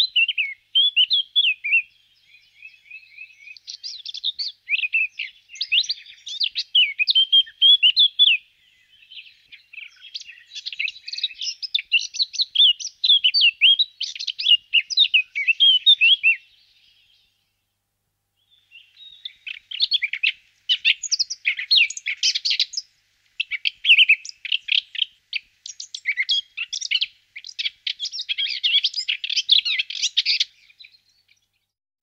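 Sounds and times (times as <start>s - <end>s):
bird warbling song: 0.0s - 17.6s, 18.4s - 31.7s.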